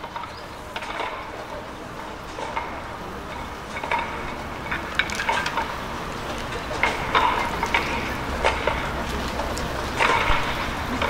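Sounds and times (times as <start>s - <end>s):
faint distant voices: 0.0s - 11.0s
low steady background noise: 0.0s - 11.0s.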